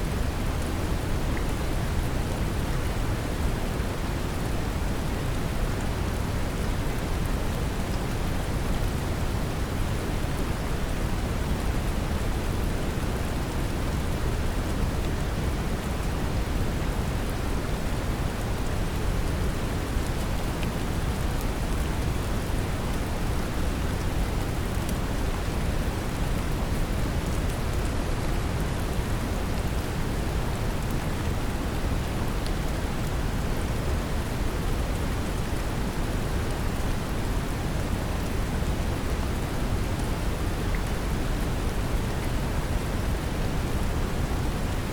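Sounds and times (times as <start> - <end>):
gentle rain hiss: 0.0 - 44.9.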